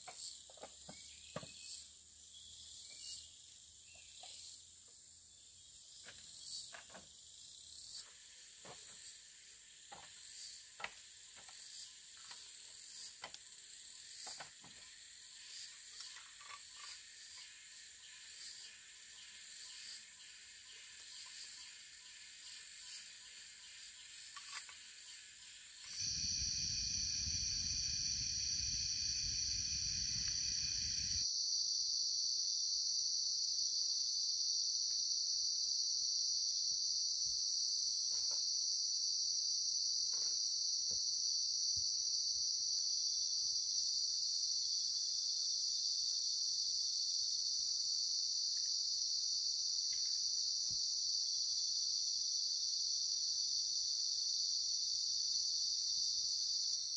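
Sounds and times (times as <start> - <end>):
daytime forest sounds: 0.0 - 56.9
night insects chorus: 0.0 - 56.9.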